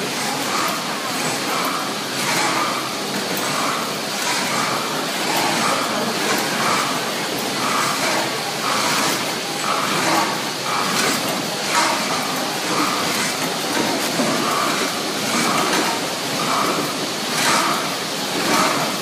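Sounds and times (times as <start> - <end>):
packaging machine running: 0.0 - 19.0.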